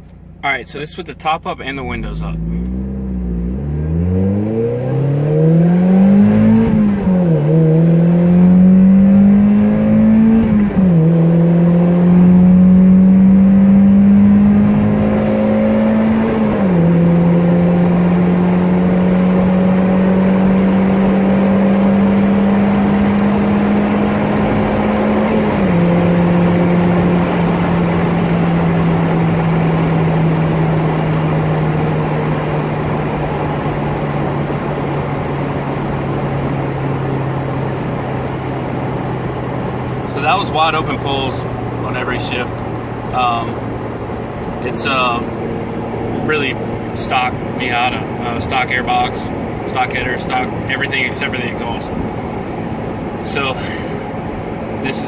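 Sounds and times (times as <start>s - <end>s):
car engine accelerating through gears: 1.7s - 55.0s.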